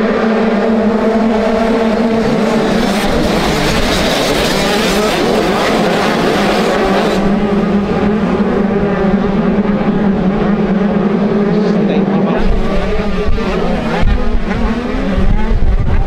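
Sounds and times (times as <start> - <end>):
motorbike engines running: 0.0 - 16.0.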